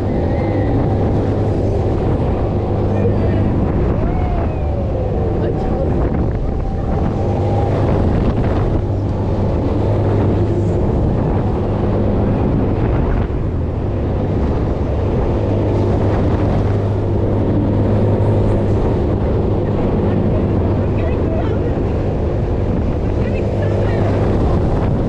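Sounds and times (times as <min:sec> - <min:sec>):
low machine hum: 0:00.0 - 0:25.0
wind rushing over microphone: 0:00.0 - 0:25.0.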